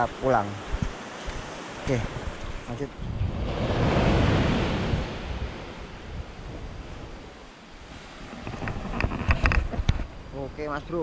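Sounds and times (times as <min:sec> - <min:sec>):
surf breaking on a beach: 0:00.0 - 0:11.0
wind on the microphone: 0:00.0 - 0:11.0.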